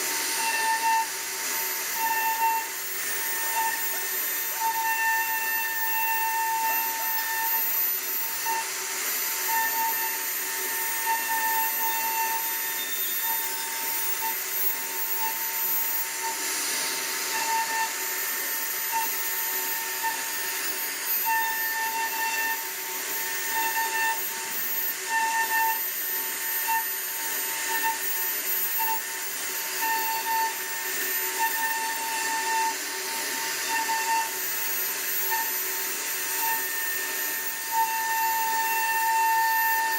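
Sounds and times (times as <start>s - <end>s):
router bit cutting wood hiss: 0.0s - 39.9s
router spindle motor whine: 0.0s - 39.9s.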